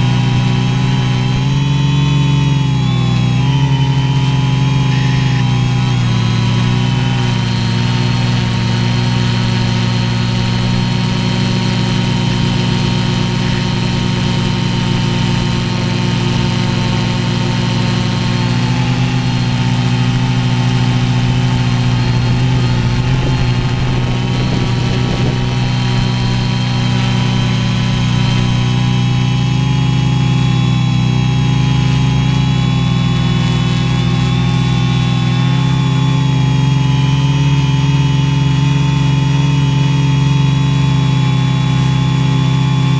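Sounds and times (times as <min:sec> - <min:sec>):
drone motors buzzing: 0:00.0 - 0:42.9.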